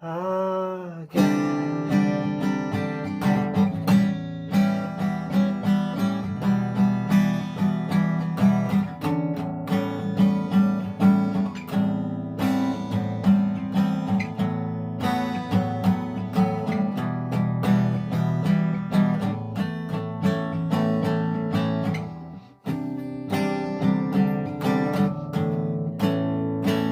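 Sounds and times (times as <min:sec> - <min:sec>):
fingerstyle acoustic guitar: 0:00.2 - 0:26.9.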